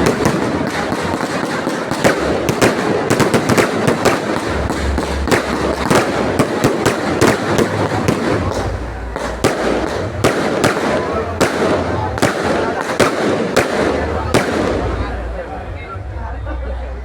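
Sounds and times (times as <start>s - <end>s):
fireworks bangs and crackles: 0.0s - 15.6s
fireworks rumble: 0.0s - 17.0s.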